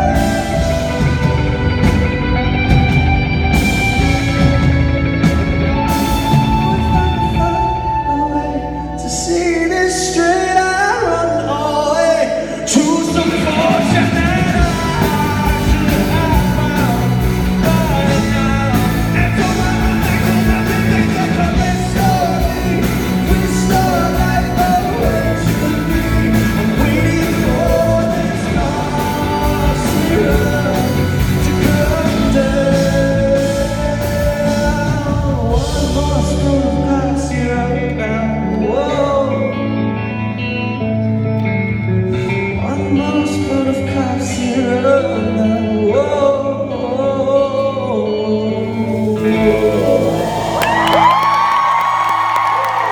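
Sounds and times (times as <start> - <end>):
live rock band: 0.0 - 52.9
person singing: 0.0 - 52.9.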